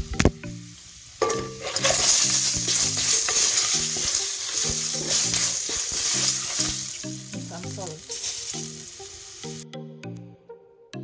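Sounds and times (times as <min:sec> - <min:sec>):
food sizzling in a hot pan: 0:00.3 - 0:09.6.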